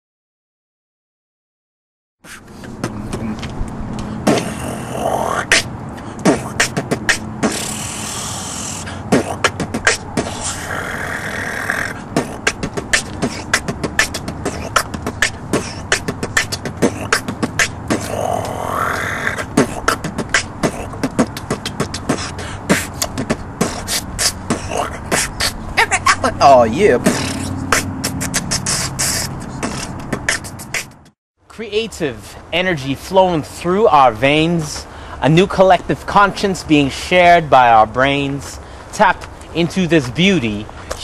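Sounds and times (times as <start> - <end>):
person beatboxing: 2.3 - 41.0.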